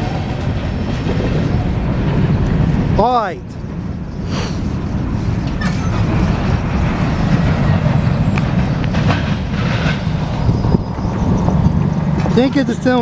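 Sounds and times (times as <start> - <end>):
heavy traffic rumble: 0.0 - 13.0.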